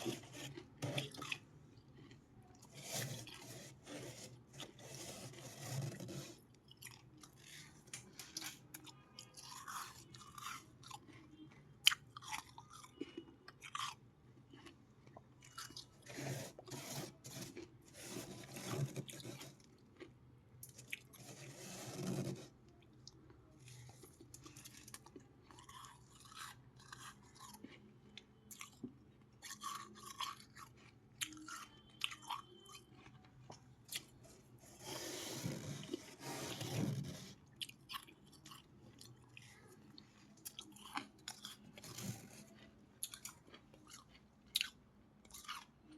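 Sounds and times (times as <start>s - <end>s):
person chewing ice: 0.0s - 45.9s.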